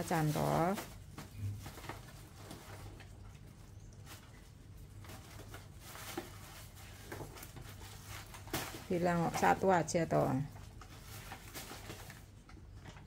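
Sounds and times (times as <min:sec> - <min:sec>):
low steady hum: 0:00.0 - 0:13.0
plastic bag rustling: 0:00.0 - 0:13.0.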